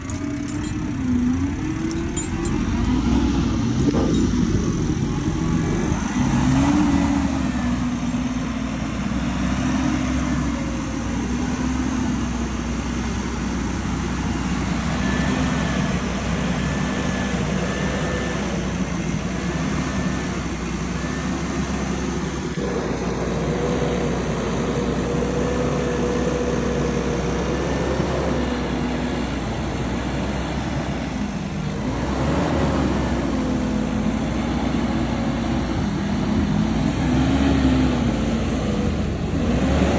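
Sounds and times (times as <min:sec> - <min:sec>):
diesel engines running under load: 0:00.0 - 0:39.9.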